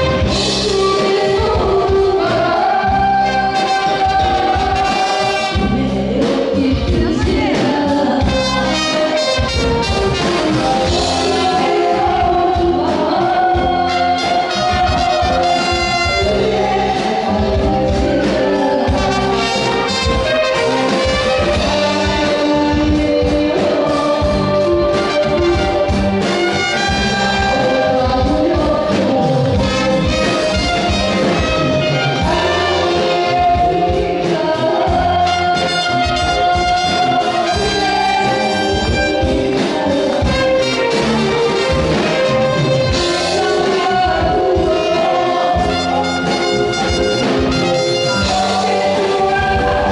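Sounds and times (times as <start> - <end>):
trumpet and trombone playing: 0.0 - 6.4, 8.2 - 49.9
woman singing into microphone: 0.0 - 9.5, 10.4 - 42.3, 42.9 - 49.9
band accompaniment: 0.0 - 49.9.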